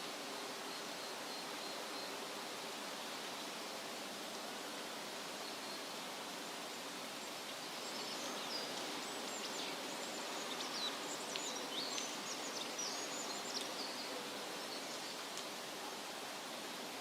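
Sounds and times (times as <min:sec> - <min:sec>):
wind rustling through trees: 0:00.0 - 0:17.0.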